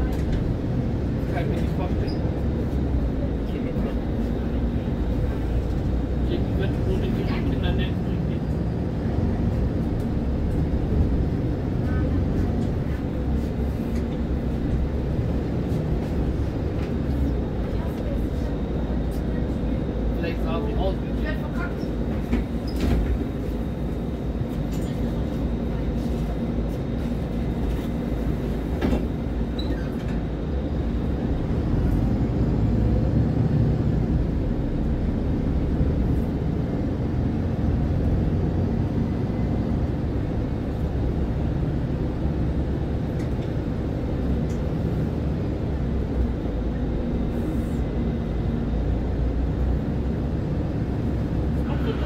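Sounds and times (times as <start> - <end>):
bus diesel engine rumbling: 0.0 - 52.0.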